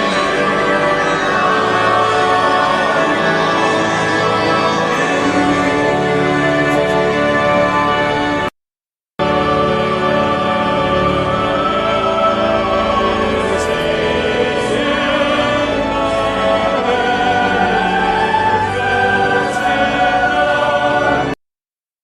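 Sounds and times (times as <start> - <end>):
choir singing held chords: 0.0 - 8.5, 9.2 - 21.4.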